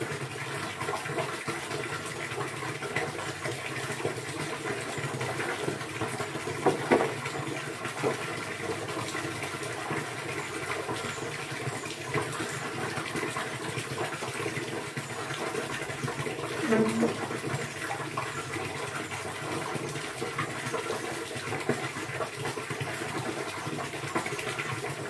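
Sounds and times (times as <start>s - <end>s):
running water rushing: 0.0s - 25.0s
water splashes: 0.8s - 25.0s.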